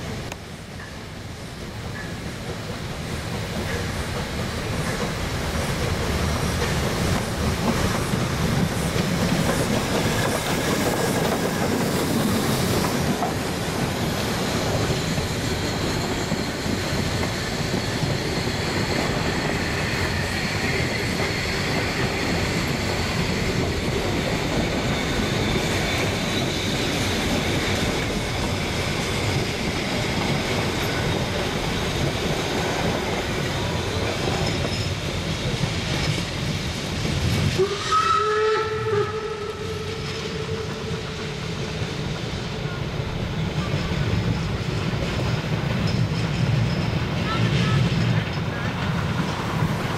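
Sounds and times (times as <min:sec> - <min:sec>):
wheels clattering on rails: 0:00.0 - 0:37.7, 0:39.6 - 0:49.9
train rumble: 0:00.0 - 0:49.9.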